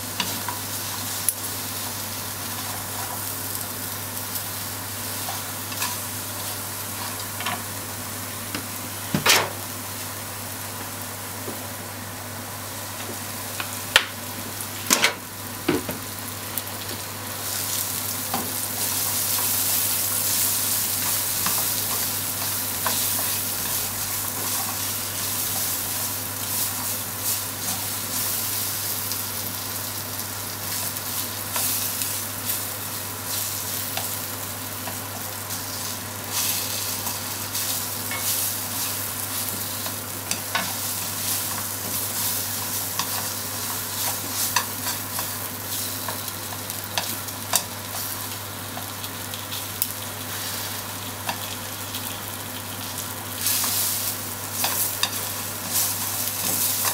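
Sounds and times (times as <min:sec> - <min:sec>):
meat and onion sizzling in oil: 0:00.0 - 0:56.9.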